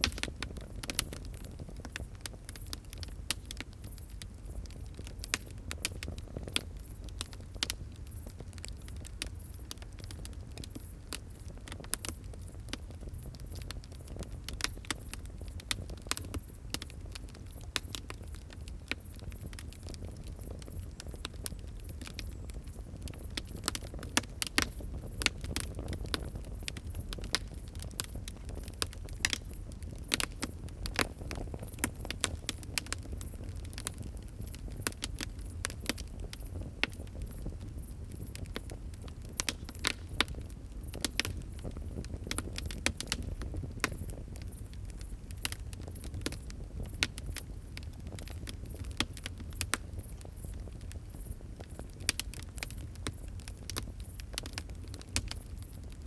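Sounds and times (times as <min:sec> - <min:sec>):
fire crackling and popping: 0:00.0 - 0:56.0
low rumble of fire: 0:00.0 - 0:56.0.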